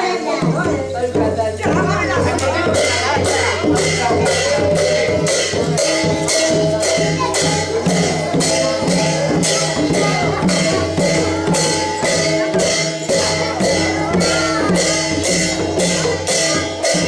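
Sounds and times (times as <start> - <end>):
rattling percussion: 0.0 - 17.0
hand drum beating: 0.3 - 17.0.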